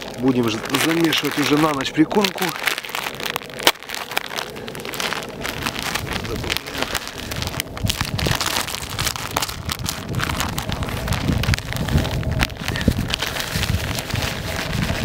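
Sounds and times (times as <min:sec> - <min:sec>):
dry groundbait rustling: 0:00.0 - 0:15.0
wind rumbling on microphone: 0:00.0 - 0:15.0.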